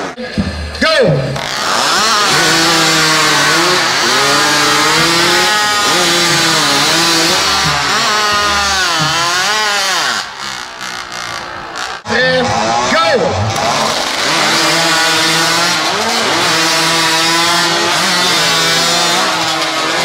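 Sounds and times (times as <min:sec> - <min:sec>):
chainsaws cutting logs: 0:00.0 - 0:20.0.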